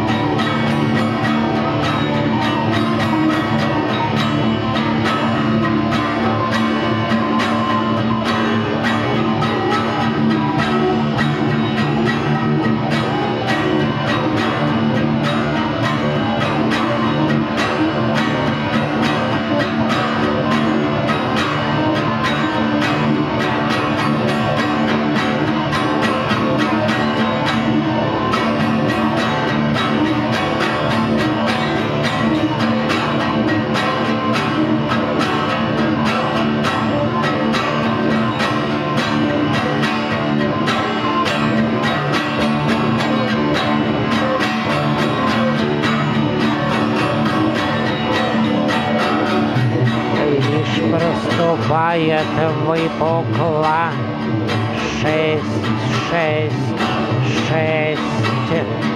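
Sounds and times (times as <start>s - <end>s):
acoustic guitar strummed: 0.0s - 58.9s
electric guitar playing: 0.0s - 58.9s.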